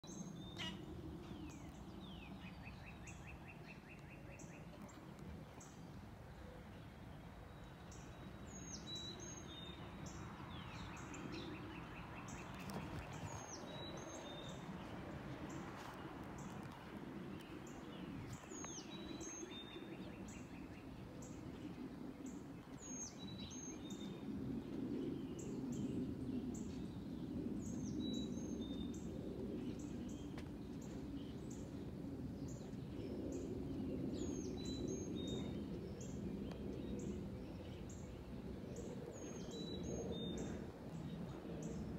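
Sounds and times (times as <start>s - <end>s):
distant jet rumble: 0.0s - 41.9s.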